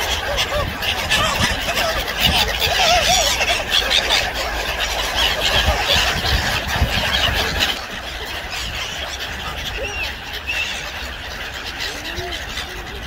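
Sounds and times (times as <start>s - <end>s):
low wavering bird calls: 0.0s - 13.0s
waterbirds squawking and honking: 0.0s - 13.0s.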